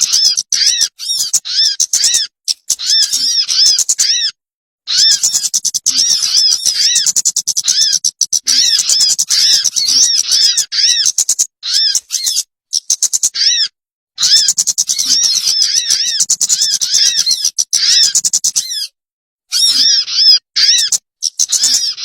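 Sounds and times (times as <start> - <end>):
recorded bird lure chirps: 0.0 - 22.0.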